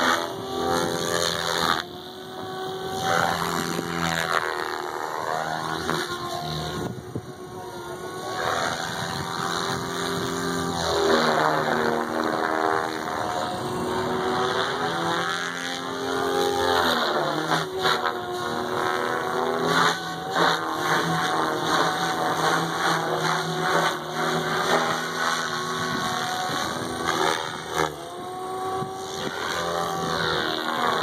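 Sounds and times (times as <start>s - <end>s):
rc helicopter rotor whine: 0.0s - 31.0s.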